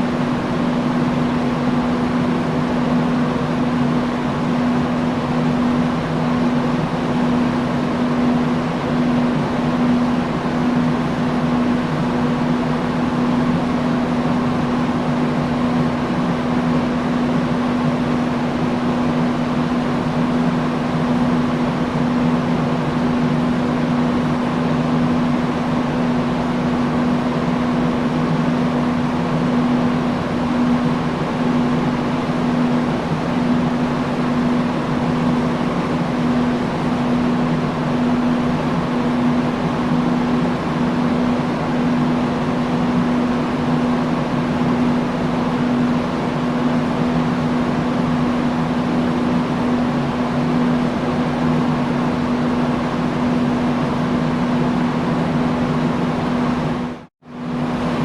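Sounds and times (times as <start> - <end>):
industrial fan running: 0.0 - 58.0.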